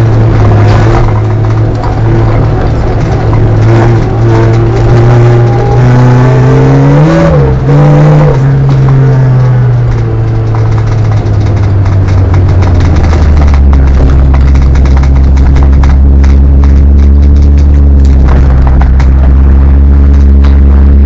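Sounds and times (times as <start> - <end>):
car engine revving from cabin: 0.0 - 21.0.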